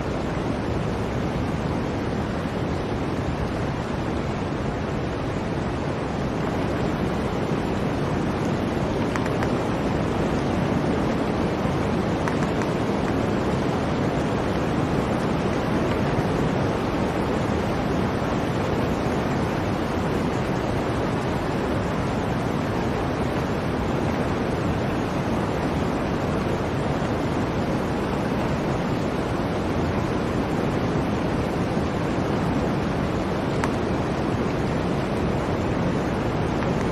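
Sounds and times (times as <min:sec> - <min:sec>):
blizzard wind rushing: 0:00.0 - 0:36.9.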